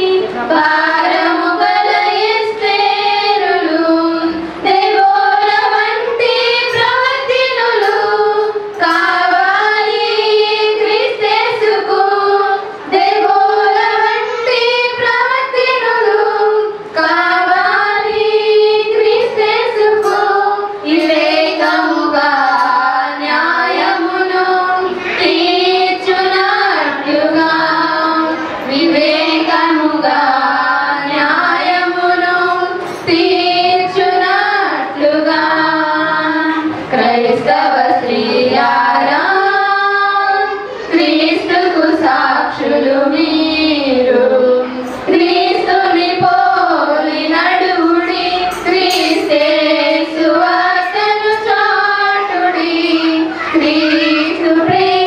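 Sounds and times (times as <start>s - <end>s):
women singing a hymn: 0.0s - 55.0s.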